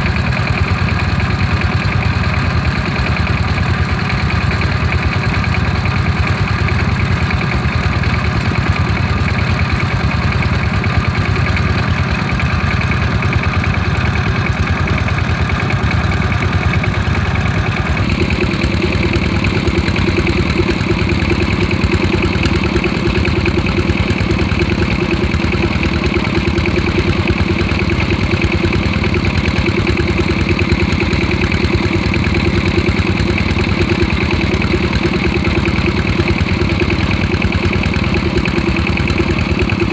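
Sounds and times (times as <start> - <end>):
diesel engines running steadily: 0.0 - 39.9.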